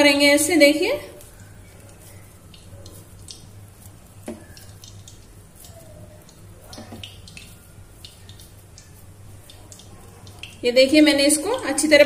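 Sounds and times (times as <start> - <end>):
low steady hum: 0.0 - 12.0
hands squishing wet dough: 1.0 - 11.9.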